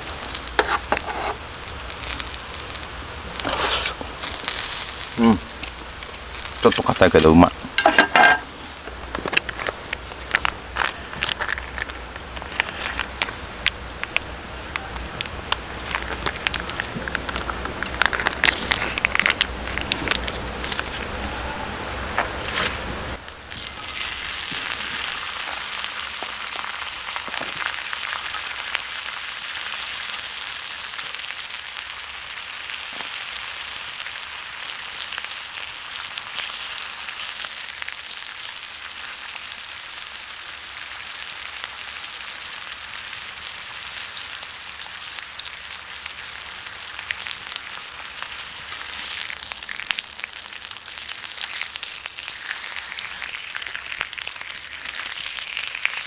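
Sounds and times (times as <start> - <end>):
meat sizzling on griddle: 0.0 - 14.5, 15.3 - 56.0.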